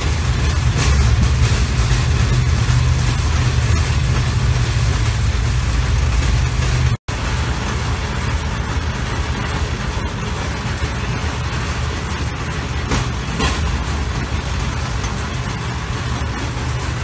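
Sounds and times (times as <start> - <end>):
steel wheels rolling on rails: 0.0 - 17.0.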